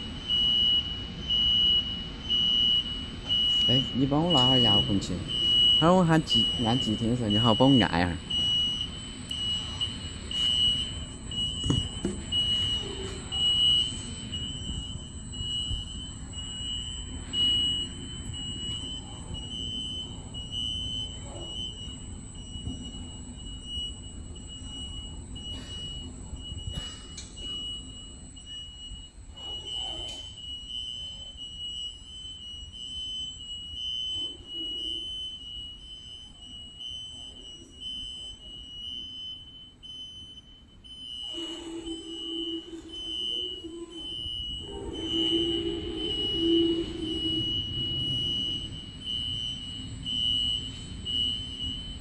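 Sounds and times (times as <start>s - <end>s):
high-pitched warning tone: 0.0s - 52.0s.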